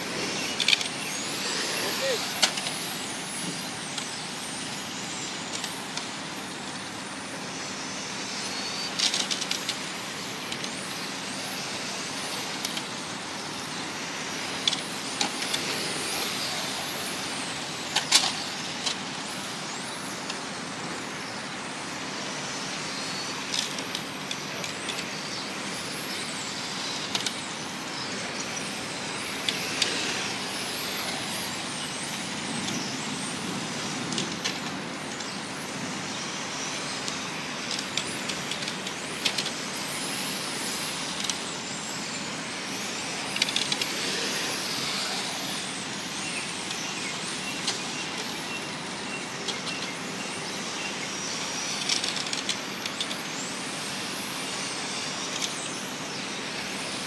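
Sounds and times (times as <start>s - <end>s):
rc car motors whining: 0.0s - 57.0s.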